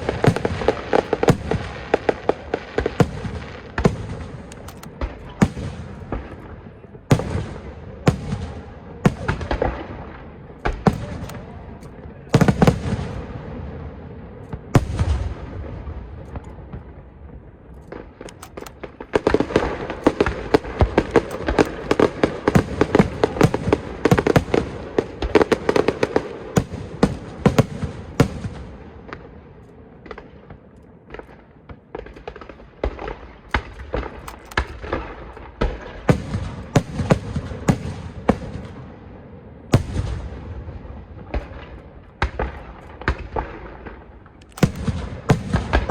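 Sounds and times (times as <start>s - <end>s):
fireworks bursting with cracks and booms: 0.0s - 45.9s
fireworks crackling: 0.0s - 45.9s.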